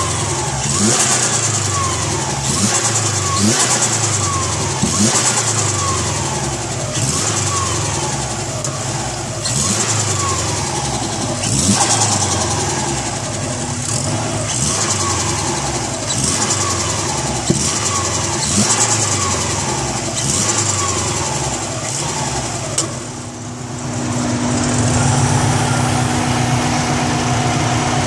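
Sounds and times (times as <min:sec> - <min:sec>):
engine idling: 0:00.0 - 0:28.0
turbo engine revving: 0:00.0 - 0:28.0.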